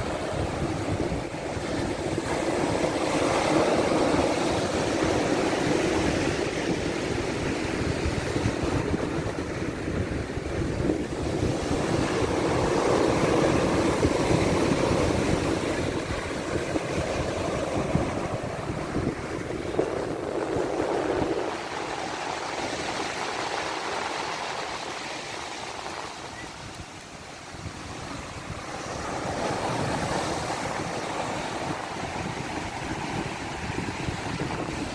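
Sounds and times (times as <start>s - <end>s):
waves washing onto shore: 0.0s - 34.9s
wind rumbling on microphone: 0.0s - 34.9s.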